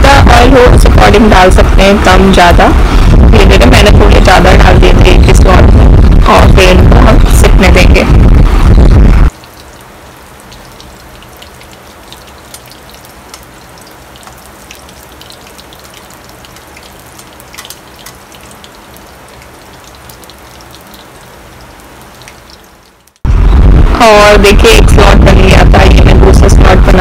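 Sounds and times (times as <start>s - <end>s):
batter deep-frying in oil: 0.0s - 27.0s.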